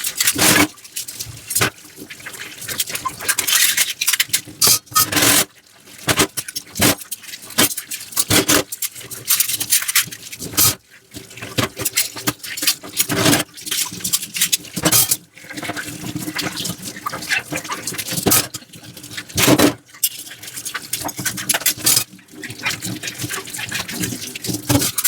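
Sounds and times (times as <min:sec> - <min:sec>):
sponge scrubbing dishes: 0:00.1 - 0:25.0.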